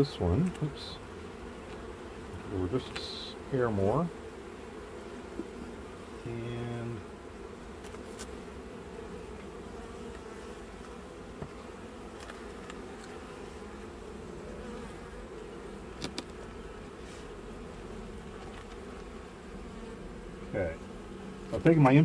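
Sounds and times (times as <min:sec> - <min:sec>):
honeybee colony buzzing: 0:00.0 - 0:22.0.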